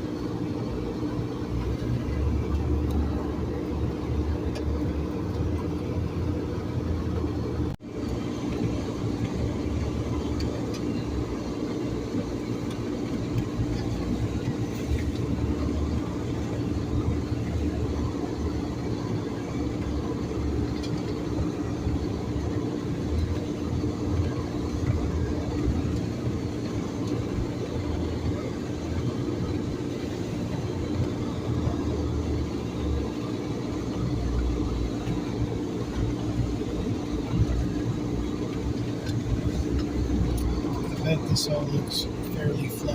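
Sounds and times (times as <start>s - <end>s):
tyres rumbling on rough road: 0.0s - 42.9s
vehicle engine hum: 0.0s - 42.9s.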